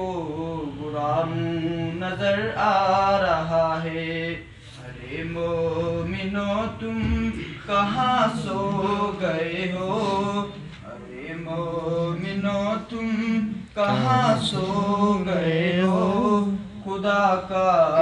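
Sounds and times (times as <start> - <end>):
man singing unaccompanied: 0.0 - 18.0.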